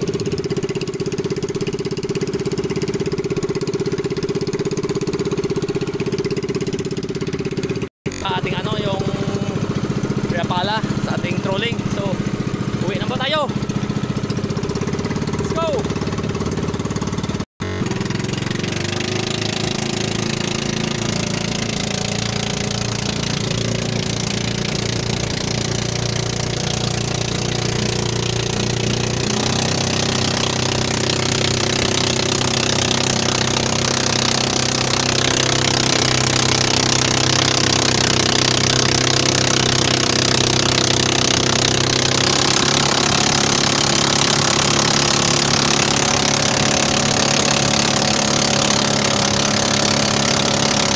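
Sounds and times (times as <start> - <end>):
small boat engine running: 0.0 - 50.9.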